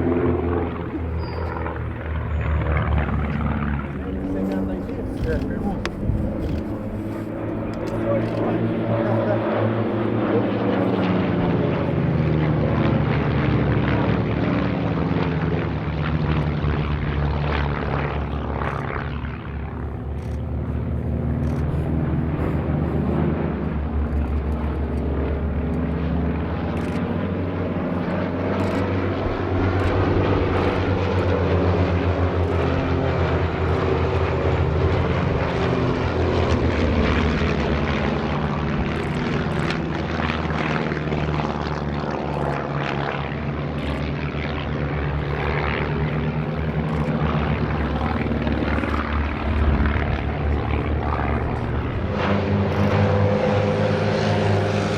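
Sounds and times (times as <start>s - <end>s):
propeller planes flying overhead: 0.0s - 54.9s.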